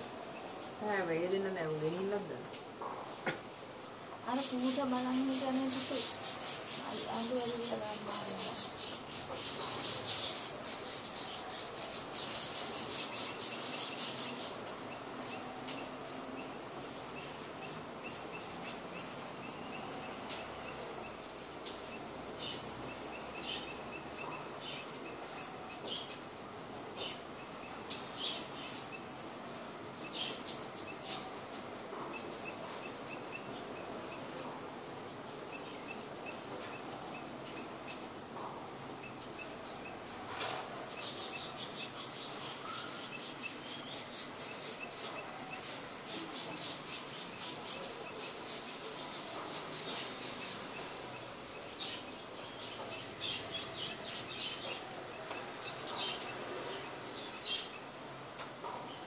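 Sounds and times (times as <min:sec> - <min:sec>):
background hiss: 0:00.0 - 0:59.0
small birds chirping: 0:00.0 - 0:59.0.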